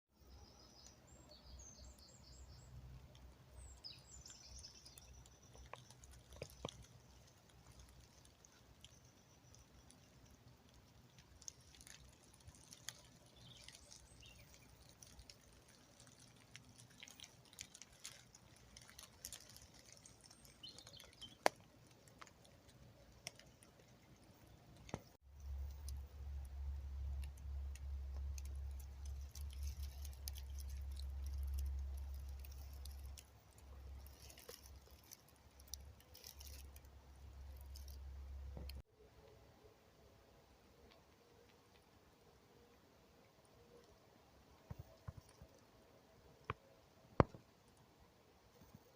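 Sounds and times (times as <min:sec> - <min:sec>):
faint birds chirping: 0:00.2 - 0:48.9
small clicks and crackles: 0:00.7 - 0:39.4, 0:40.7 - 0:42.0, 0:43.6 - 0:47.9.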